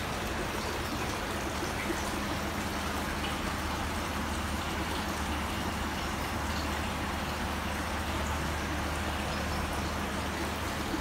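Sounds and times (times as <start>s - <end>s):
low steady hum: 0.0s - 11.0s
water rushing in a tank: 0.0s - 11.0s.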